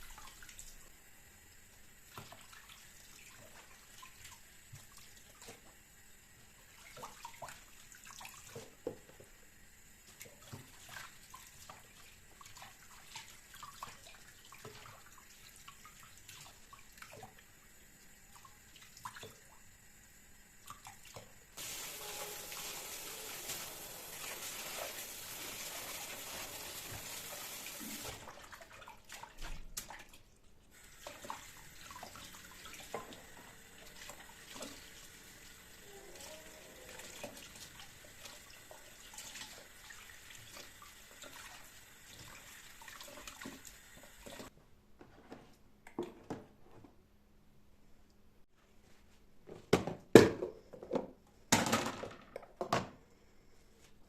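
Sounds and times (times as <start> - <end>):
kitchen tap running: 0.0 - 29.7, 30.7 - 44.5.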